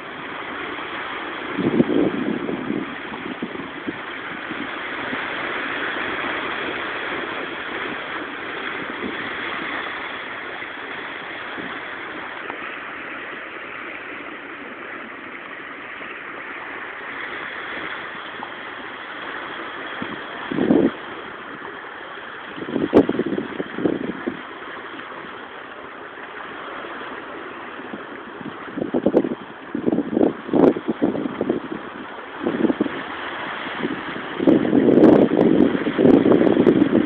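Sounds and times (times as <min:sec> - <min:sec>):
surf washing on rocky shore: 0:00.0 - 0:37.0.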